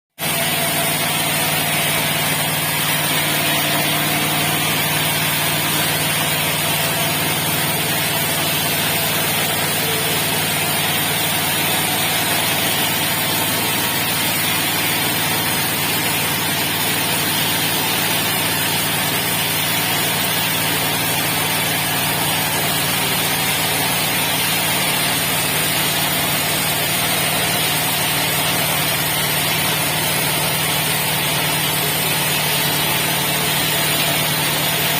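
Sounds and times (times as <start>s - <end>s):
sawmill engine running: 0.2s - 34.9s.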